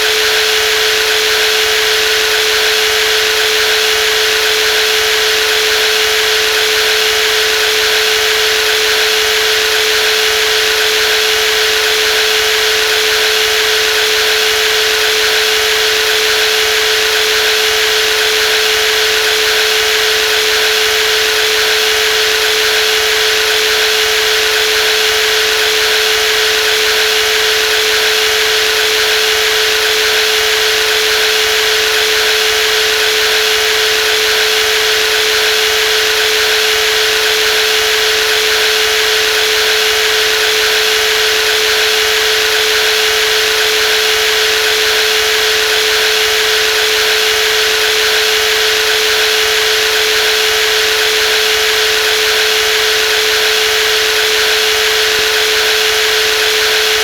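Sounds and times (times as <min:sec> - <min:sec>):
jigsaw running: 0:00.0 - 0:57.0.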